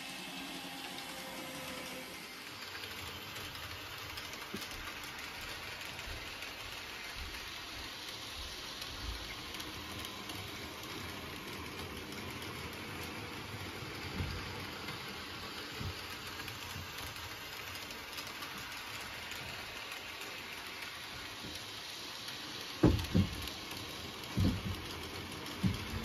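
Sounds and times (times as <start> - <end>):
model train motor whirring: 0.0 - 26.0.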